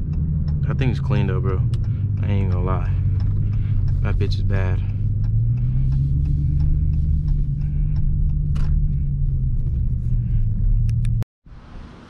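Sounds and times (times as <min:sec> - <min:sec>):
car engine droning steadily: 0:00.0 - 0:12.0.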